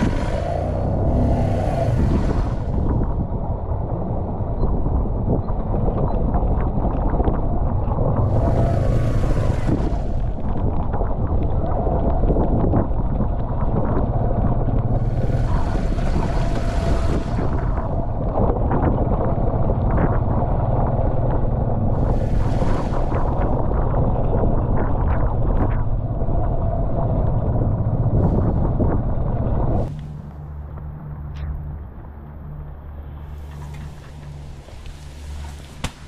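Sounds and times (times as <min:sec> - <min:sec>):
wind buffeting microphone: 0:00.0 - 0:30.8.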